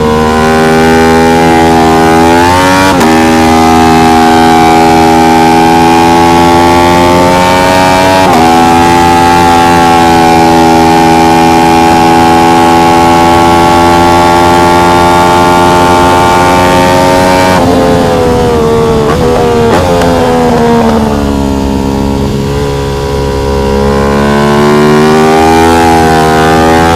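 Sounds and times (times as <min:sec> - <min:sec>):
motorcycle engine at full throttle: 0:00.0 - 0:26.9.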